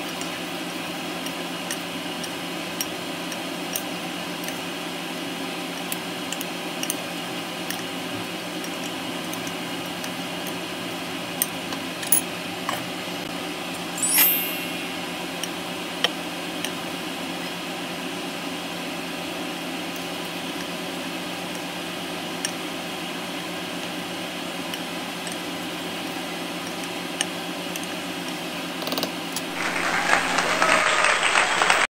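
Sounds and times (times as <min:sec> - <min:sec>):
kitchen hum: 0:00.0 - 0:31.8.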